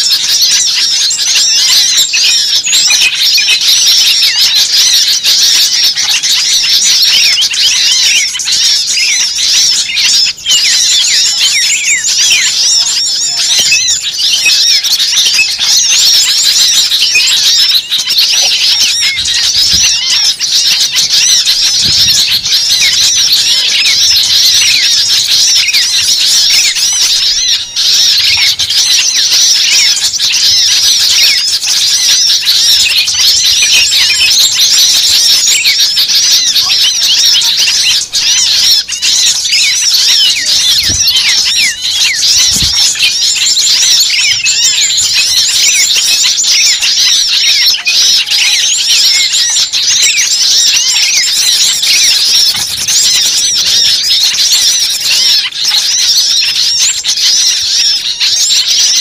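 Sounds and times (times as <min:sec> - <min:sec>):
small birds chattering and chirping: 0:00.0 - 0:59.0.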